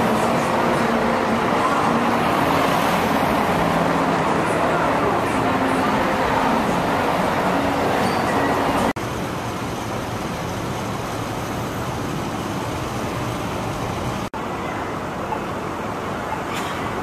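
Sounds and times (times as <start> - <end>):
vehicles passing on street: 0.0 - 17.0.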